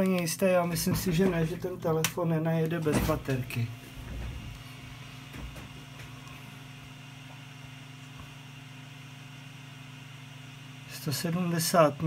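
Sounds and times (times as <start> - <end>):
power supply electrical hum: 0.0 - 12.0.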